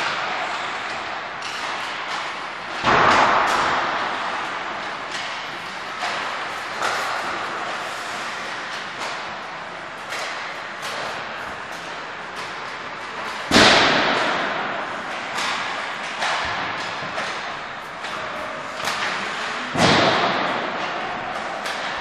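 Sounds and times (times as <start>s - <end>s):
hockey sticks hitting pucks: 0.0s - 22.0s
pucks banging into boards: 0.0s - 22.0s.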